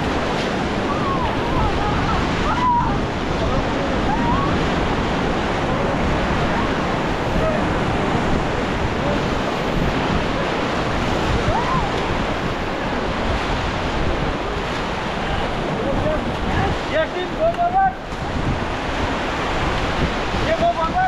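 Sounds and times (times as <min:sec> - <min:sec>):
whitewater rapids rushing: 0:00.0 - 0:21.0
wind buffeting microphone: 0:00.0 - 0:21.0.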